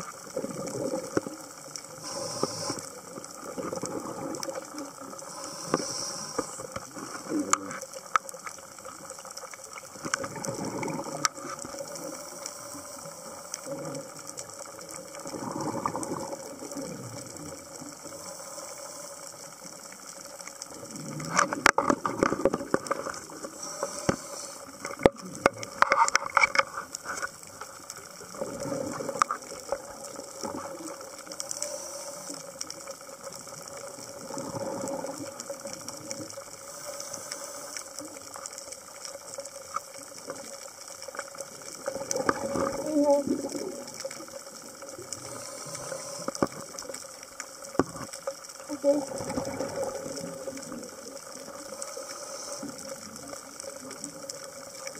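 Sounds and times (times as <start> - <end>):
faint steady tone: 0.0 - 54.9
regulator bubbles underwater: 0.0 - 54.9.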